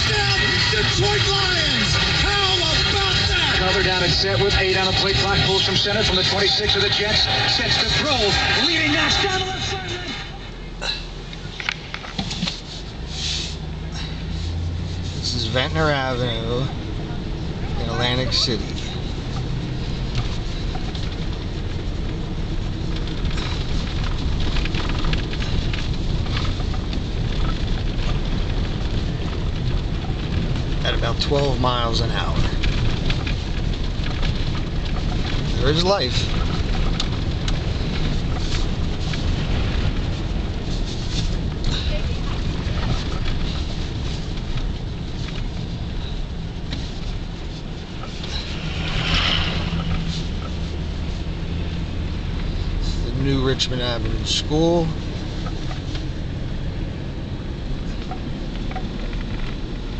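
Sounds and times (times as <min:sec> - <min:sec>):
car interior rumble: 0:00.0 - 0:59.9
tyres crackling on snow: 0:00.0 - 0:59.9.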